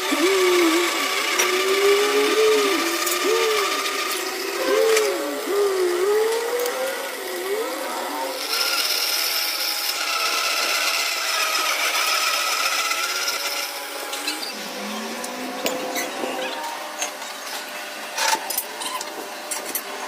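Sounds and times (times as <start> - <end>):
power tool whining: 0.0 - 20.0.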